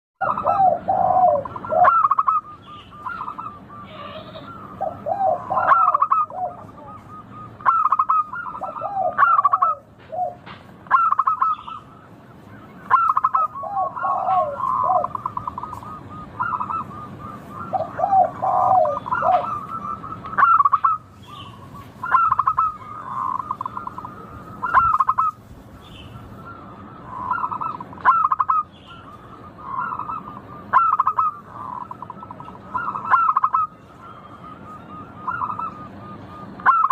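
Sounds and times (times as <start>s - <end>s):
doves cooing in trills: 0.2s - 36.9s.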